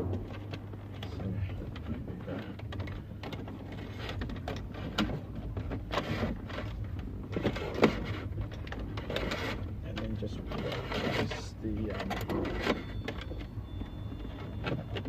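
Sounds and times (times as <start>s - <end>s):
rustling and clicking of trim: 0.0s - 15.0s.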